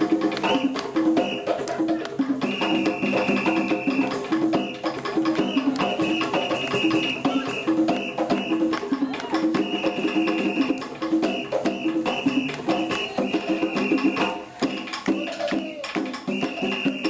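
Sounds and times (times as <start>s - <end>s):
hand drums: 0.0s - 17.0s
shakers: 0.0s - 17.0s.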